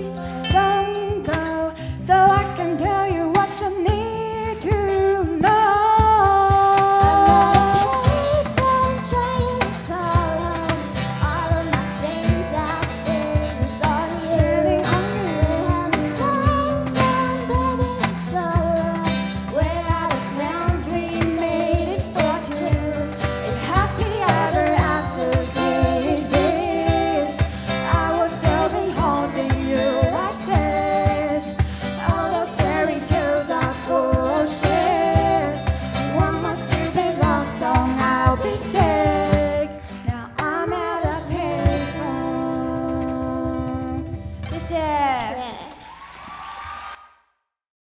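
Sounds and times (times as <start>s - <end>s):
vocal ensemble singing pop song: 0.0s - 44.3s.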